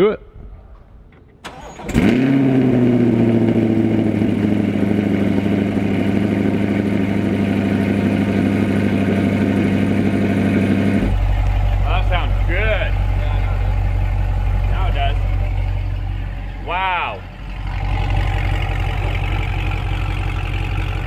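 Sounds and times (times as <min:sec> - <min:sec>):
engine cranking: 0:00.5 - 0:07.3, 0:08.6 - 0:21.0
engine revving and idling: 0:01.5 - 0:21.0.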